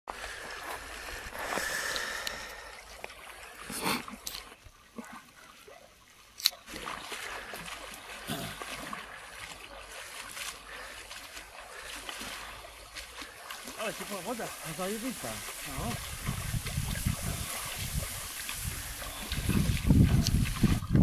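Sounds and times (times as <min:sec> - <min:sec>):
water splashing and lapping: 0:00.1 - 0:21.0.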